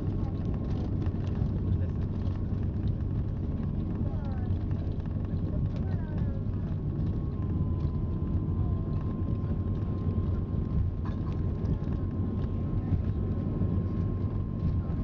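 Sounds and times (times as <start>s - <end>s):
aircraft engines deep rumble: 0.0s - 15.0s.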